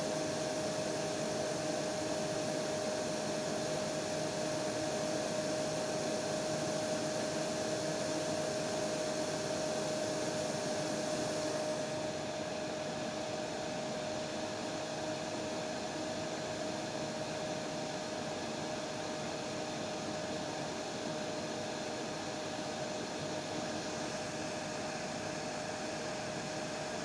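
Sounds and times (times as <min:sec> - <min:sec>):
hair dryer running: 0:00.0 - 0:27.0.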